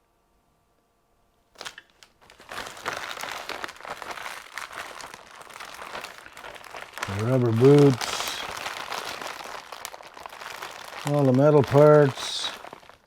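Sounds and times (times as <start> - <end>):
plastic bags crinkling: 1.5 - 13.0.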